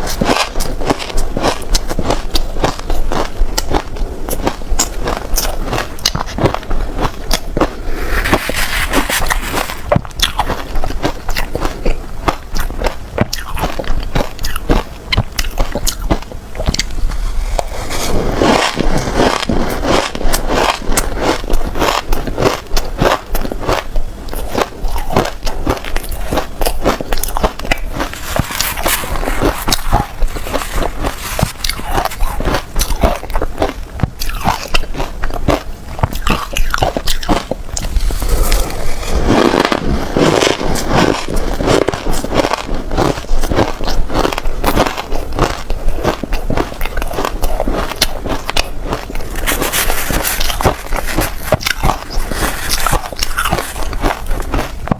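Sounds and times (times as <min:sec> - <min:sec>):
chewing crunchy ice: 0:00.0 - 0:54.9.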